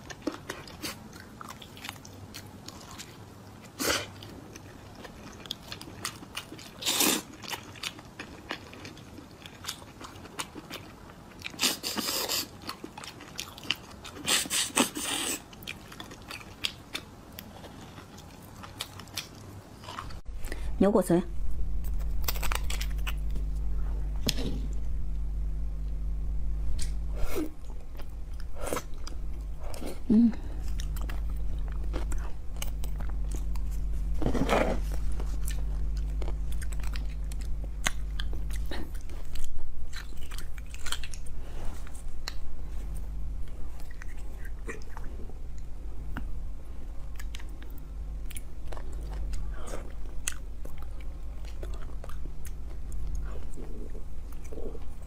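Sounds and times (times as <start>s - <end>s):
person chewing wetly: 0.0s - 20.6s, 26.7s - 46.4s, 47.0s - 55.0s
steady low hum: 0.0s - 55.0s.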